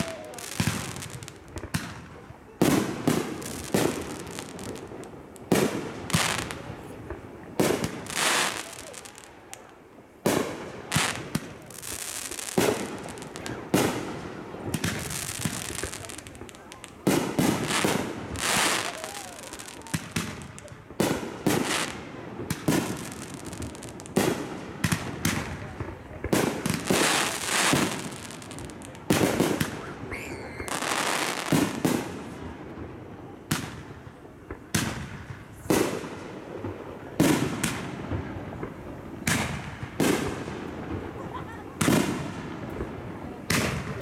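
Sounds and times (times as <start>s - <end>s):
firework crackling: 0.0s - 44.0s.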